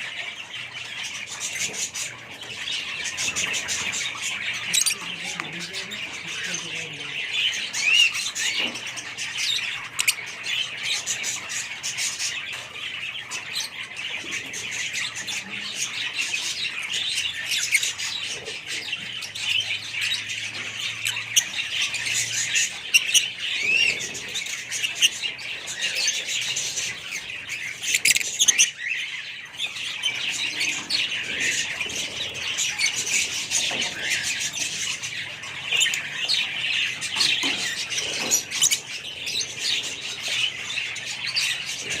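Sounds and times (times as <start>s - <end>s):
lovebirds chirping and squawking: 0.0s - 42.0s.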